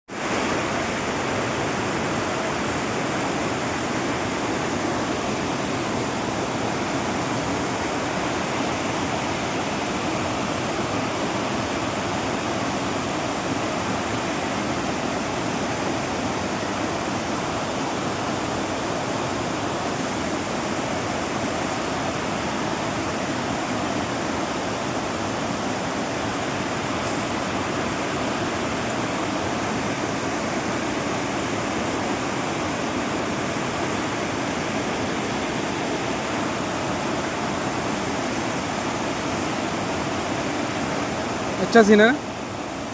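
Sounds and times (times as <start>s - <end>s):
waterfall rushing: 0.1s - 42.9s.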